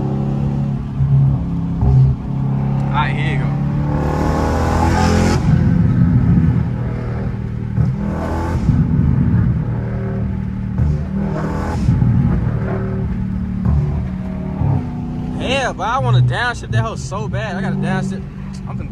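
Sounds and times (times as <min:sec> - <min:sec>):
car engine accelerating hard: 0:00.0 - 0:18.9.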